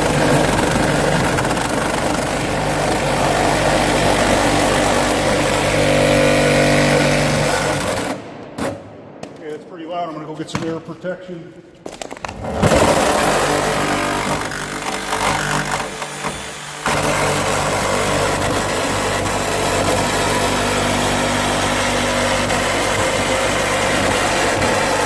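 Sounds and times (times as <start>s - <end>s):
motor running loudly: 0.0s - 8.2s, 12.4s - 25.0s.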